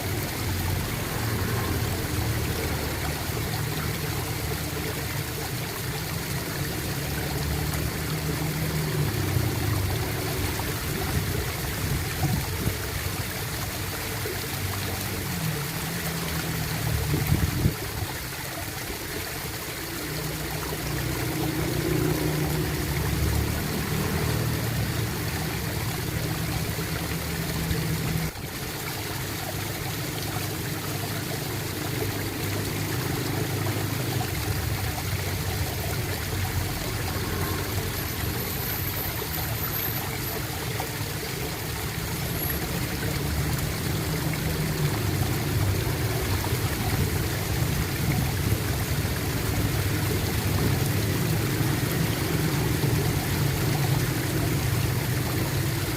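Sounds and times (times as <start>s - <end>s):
water gurgling and trickling: 0.0s - 55.9s.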